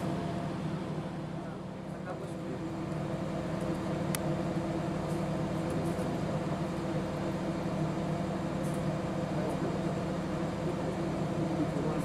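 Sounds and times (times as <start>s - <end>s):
idling diesel train hum: 0.0s - 12.0s.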